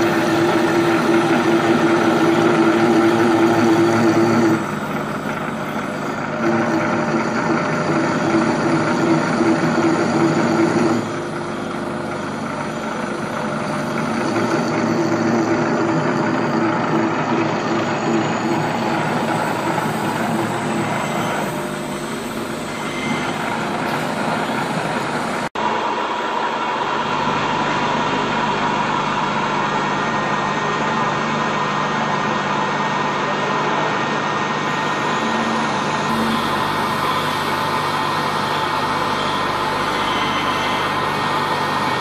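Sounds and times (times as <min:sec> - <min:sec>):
lathe humming with gear whine: 0:00.0 - 0:42.0.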